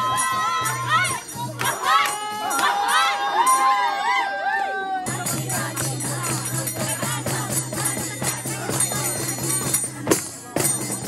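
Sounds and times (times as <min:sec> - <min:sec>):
tambourine jingling: 0:00.0 - 0:04.0, 0:05.1 - 0:11.0
festive dance music: 0:00.0 - 0:04.2, 0:05.0 - 0:11.0
voices: 0:00.0 - 0:11.0.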